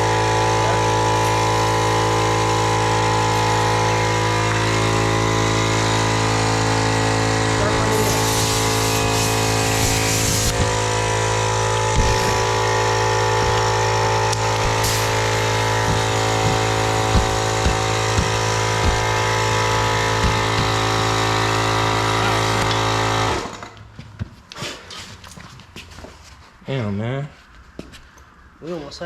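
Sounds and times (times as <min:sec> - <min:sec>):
air compressor running: 0:00.0 - 0:23.8.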